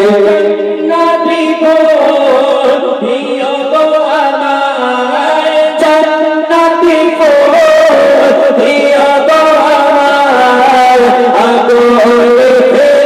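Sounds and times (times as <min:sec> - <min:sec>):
men singing into microphones: 0:00.0 - 0:13.0.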